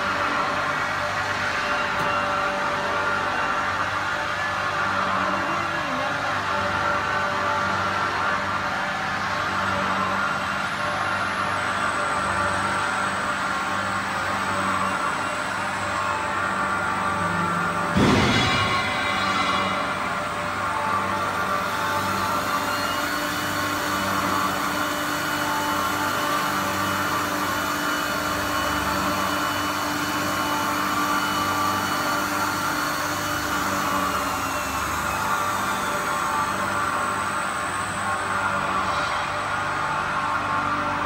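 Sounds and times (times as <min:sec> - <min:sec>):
mixer motor droning: 0:00.0 - 0:41.0.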